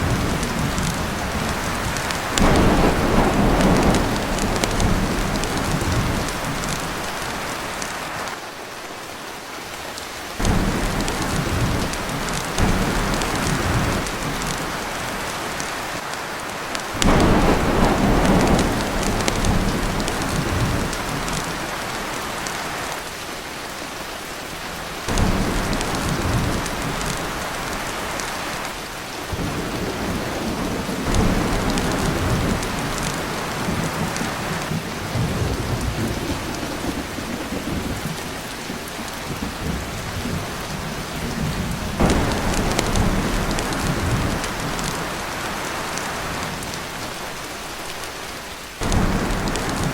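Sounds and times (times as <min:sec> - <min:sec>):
rolling thunder: 0:00.0 - 0:07.8, 0:10.4 - 0:15.6, 0:16.9 - 0:22.2, 0:25.1 - 0:28.4, 0:29.3 - 0:46.7, 0:48.8 - 0:49.9
heavy rain on a tin roof: 0:00.0 - 0:49.9.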